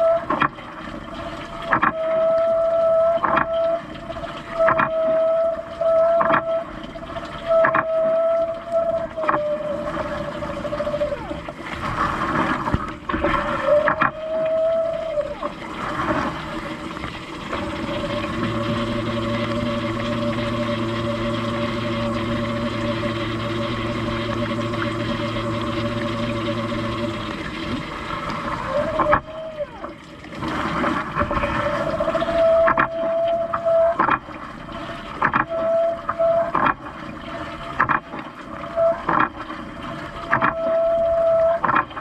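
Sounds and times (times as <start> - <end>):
dishwasher pump whining: 0.0 - 42.0.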